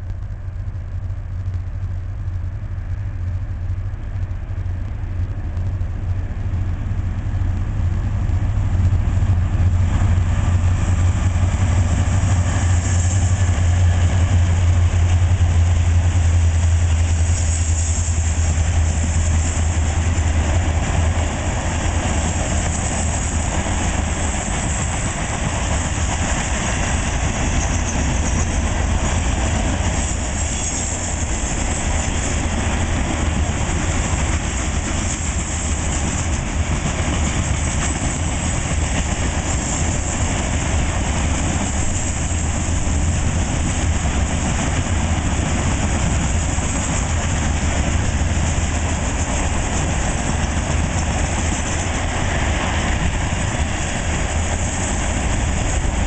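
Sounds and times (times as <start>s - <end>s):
diesel locomotive engine drone: 0.0s - 56.0s
train wheels rolling on rails: 0.0s - 56.0s.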